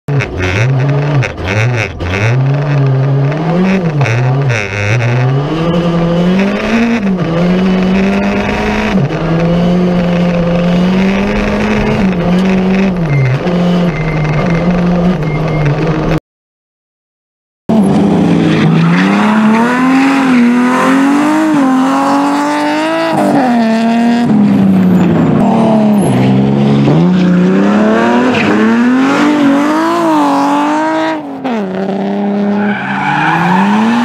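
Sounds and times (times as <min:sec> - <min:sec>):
rally car engine revving: 0:00.1 - 0:16.2, 0:17.7 - 0:34.0.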